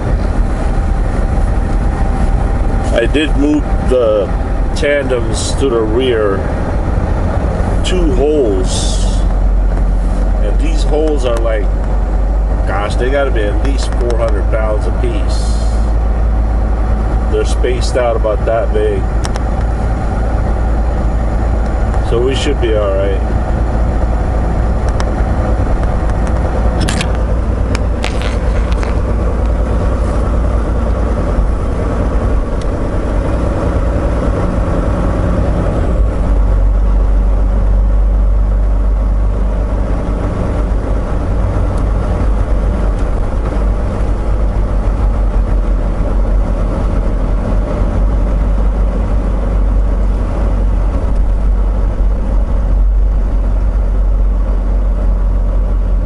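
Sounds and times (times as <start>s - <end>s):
diesel truck engine rumbling: 0.0s - 56.0s.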